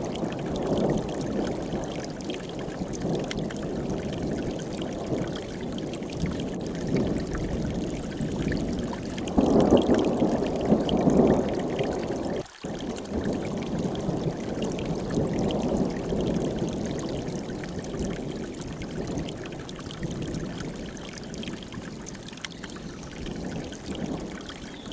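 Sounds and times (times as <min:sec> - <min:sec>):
stream rushing over rocks: 0:00.0 - 0:24.9.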